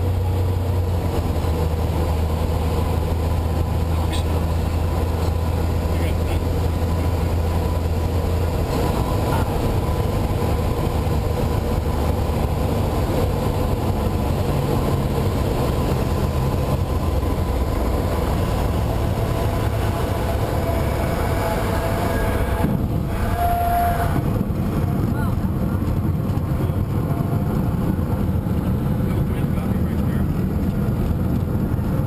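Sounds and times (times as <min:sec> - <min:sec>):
light aircraft engine droning: 0:00.0 - 0:32.0.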